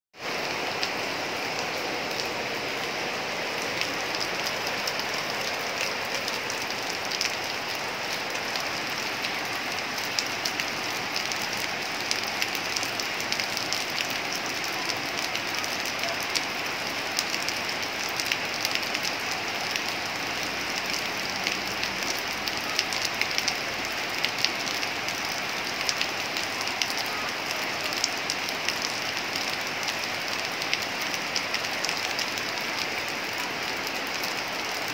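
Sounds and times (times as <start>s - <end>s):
raindrops ticking on surfaces: 0.2s - 34.9s
steady rainfall: 0.2s - 34.9s.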